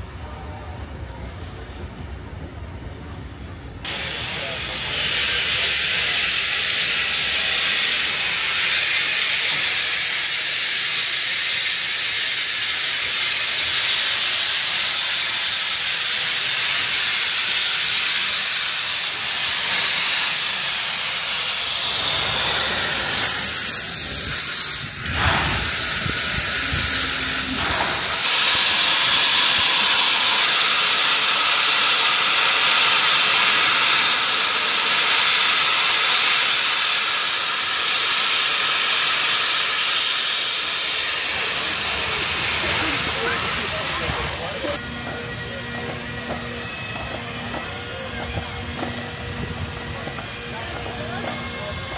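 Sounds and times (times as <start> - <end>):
steam locomotive hissing: 0.0 - 51.9.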